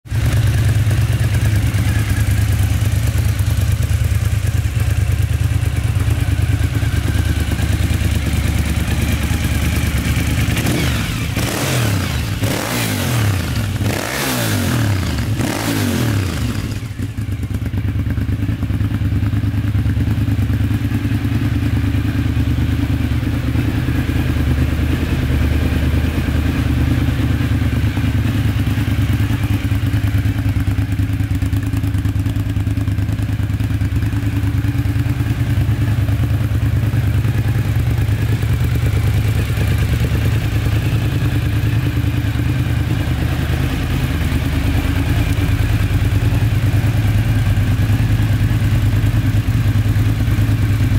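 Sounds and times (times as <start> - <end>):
motorcycle engine revving and idling: 0.0 - 50.9.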